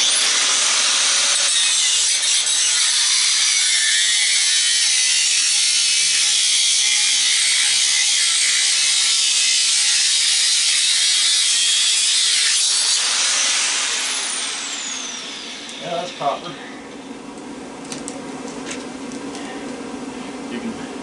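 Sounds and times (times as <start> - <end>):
angle grinder cutting copper: 0.0 - 17.1.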